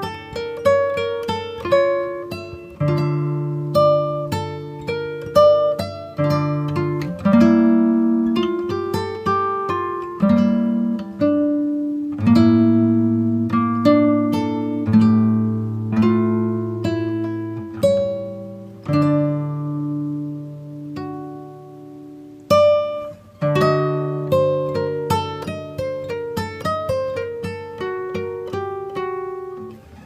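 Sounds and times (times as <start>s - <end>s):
acoustic guitar plucked notes: 0.0s - 30.0s.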